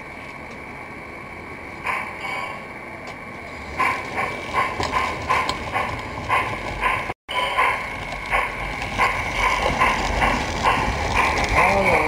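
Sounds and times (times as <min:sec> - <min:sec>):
steam locomotive chuffing: 0:00.7 - 0:12.0.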